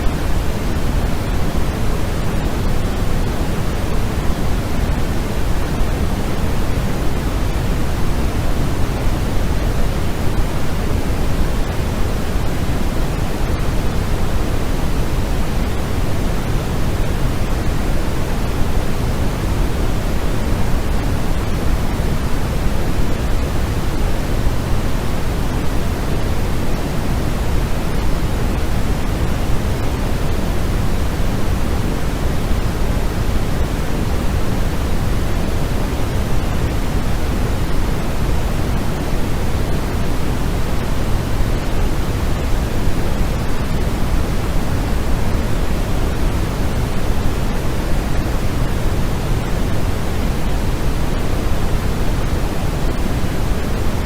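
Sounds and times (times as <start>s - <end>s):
low synthetic white noise: 0.0s - 54.0s.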